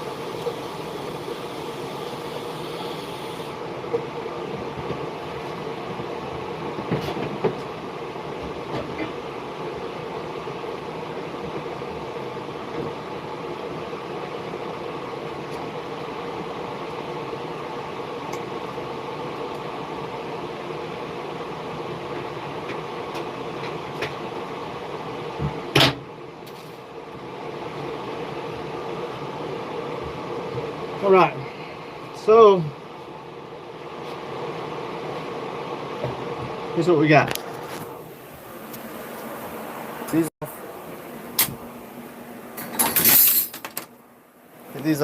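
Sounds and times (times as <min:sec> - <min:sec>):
machine running hum: 0:00.0 - 0:45.0.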